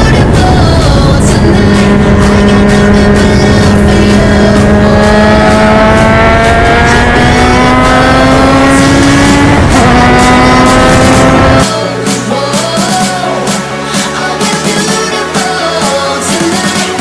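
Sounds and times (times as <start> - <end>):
race car engine at full throttle: 0.0 - 17.0.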